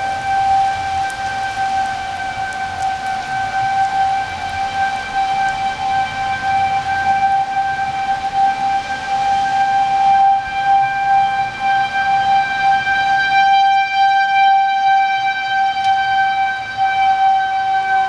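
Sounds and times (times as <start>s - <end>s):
tornado warning siren steady tone: 0.0s - 18.0s.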